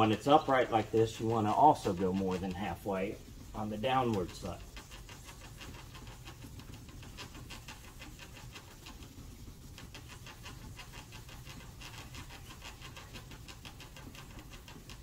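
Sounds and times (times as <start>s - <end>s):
wet sandpaper rasping: 0.0s - 15.0s.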